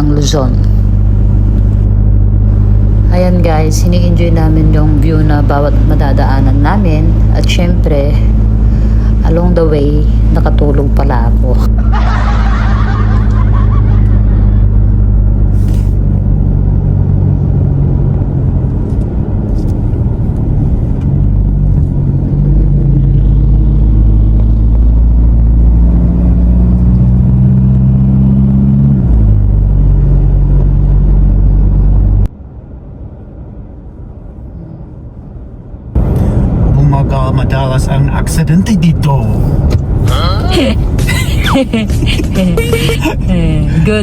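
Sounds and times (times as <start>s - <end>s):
road rumble: 0.0s - 44.0s
vehicle engine: 0.0s - 44.0s.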